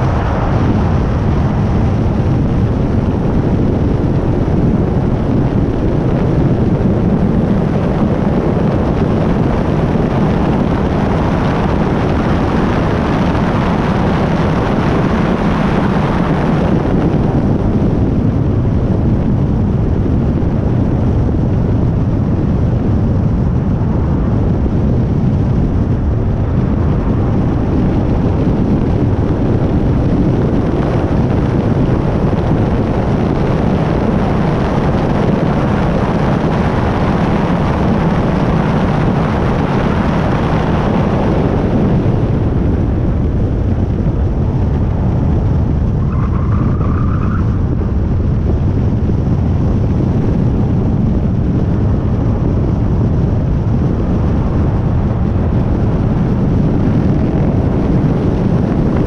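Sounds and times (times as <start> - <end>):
tyre and road roar: 0.0 - 59.0
wind buffeting microphone: 0.0 - 59.0.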